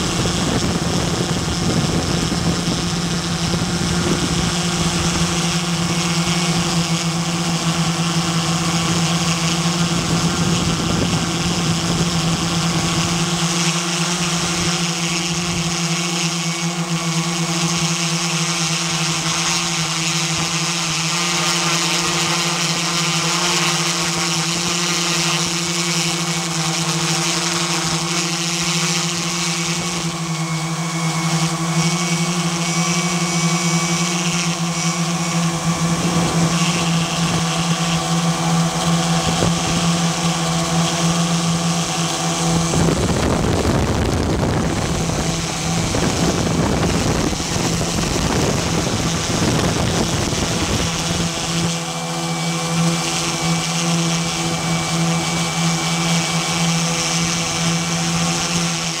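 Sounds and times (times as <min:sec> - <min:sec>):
drone motors buzzing: 0:00.0 - 0:59.0.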